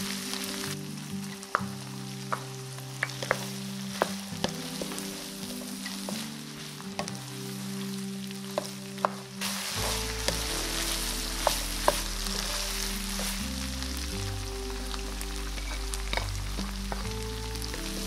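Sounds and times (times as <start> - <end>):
meat and potato sizzling in a pan: 0.0 - 18.0.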